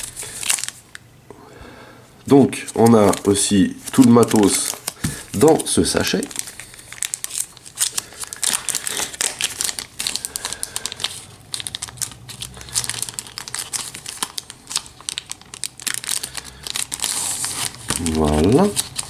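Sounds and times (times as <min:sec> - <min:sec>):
plastic bag crinkling: 0:00.0 - 0:01.0, 0:02.6 - 0:19.0.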